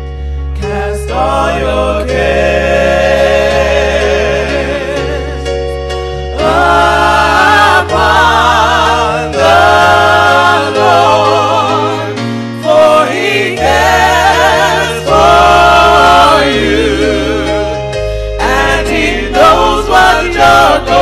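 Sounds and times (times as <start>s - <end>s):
low bass notes: 0.0s - 21.0s
gospel choir singing: 0.6s - 21.0s.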